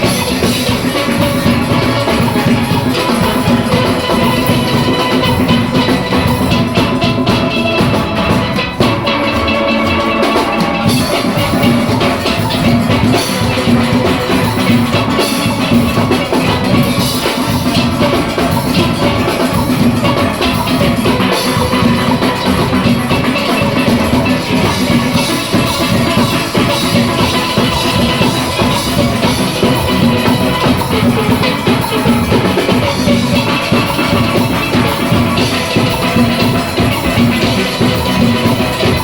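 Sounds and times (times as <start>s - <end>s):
drum kit and percussion beat: 0.0s - 39.0s
steelpans playing melody: 0.0s - 39.0s.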